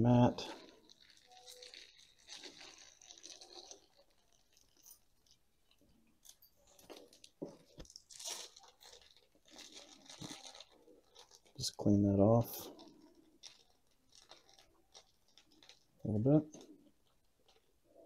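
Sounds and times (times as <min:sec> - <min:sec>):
potting soil crunching and rustling: 0:00.0 - 0:05.4, 0:06.7 - 0:16.7.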